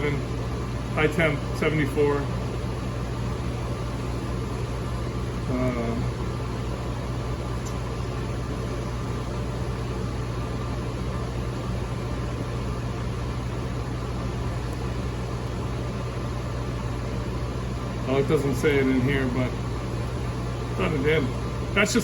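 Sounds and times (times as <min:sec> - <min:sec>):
low electrical hum: 0:00.0 - 0:22.0
machine hum and air noise: 0:00.0 - 0:22.0.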